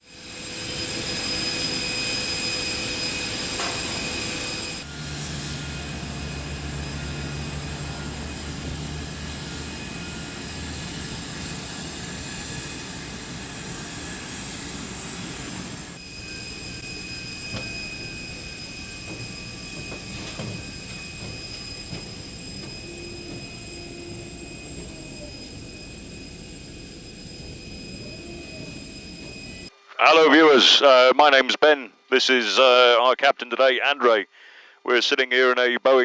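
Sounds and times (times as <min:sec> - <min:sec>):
jet aircraft cabin hum and whine: 0:00.2 - 0:30.9.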